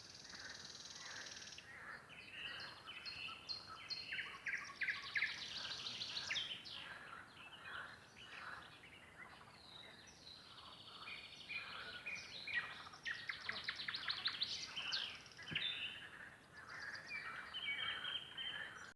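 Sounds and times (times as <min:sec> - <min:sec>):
nightingales singing: 0:00.0 - 0:18.9.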